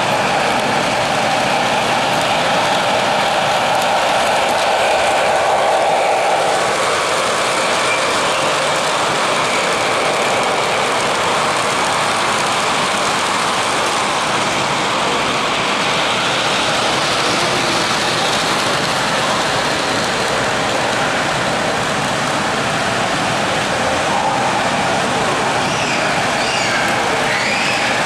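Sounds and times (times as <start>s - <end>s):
model trains whirring: 0.0s - 28.0s.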